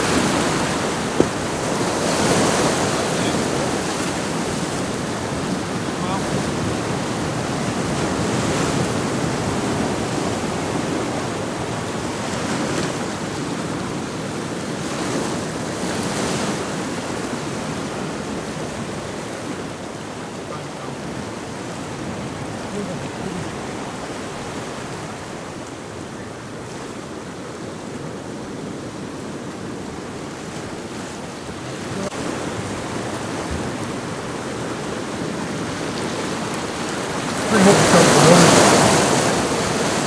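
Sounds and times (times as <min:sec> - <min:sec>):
surf breaking on rocks: 0:00.0 - 0:40.0
wind on microphone: 0:00.0 - 0:40.0.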